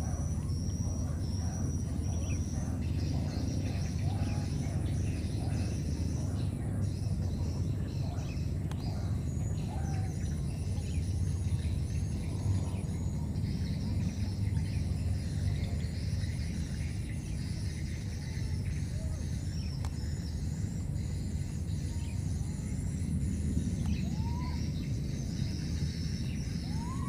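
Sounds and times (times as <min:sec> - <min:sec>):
insects and birds chirping: 0:00.0 - 0:27.0.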